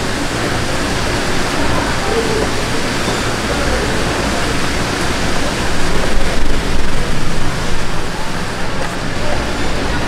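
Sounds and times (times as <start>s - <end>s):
loud rushing noise: 0.0s - 10.0s.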